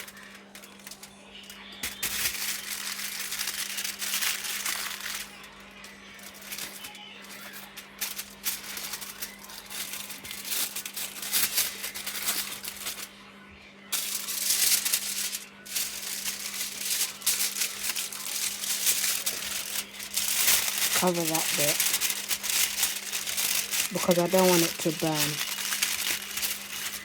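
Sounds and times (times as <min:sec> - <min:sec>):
aluminium foil crinkling: 0:00.0 - 0:13.2, 0:13.9 - 0:27.0.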